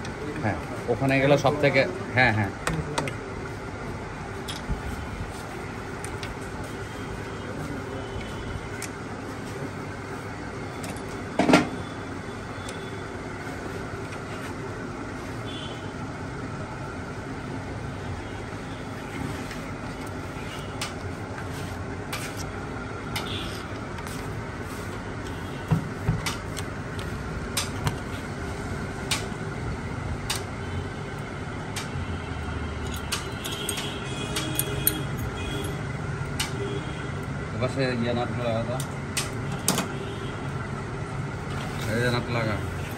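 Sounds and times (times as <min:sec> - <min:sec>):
workshop hum: 0:00.0 - 0:42.9.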